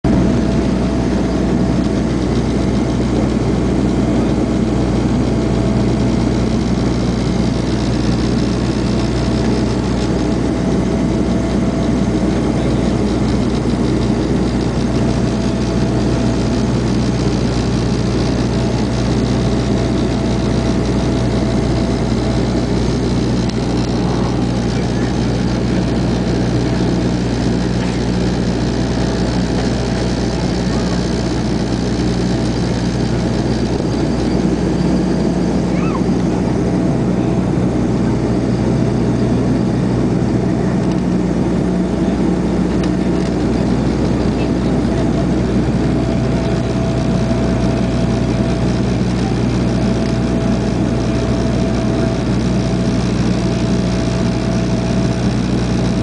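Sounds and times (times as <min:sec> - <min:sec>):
turboprop cabin drone: 0:00.0 - 0:56.0.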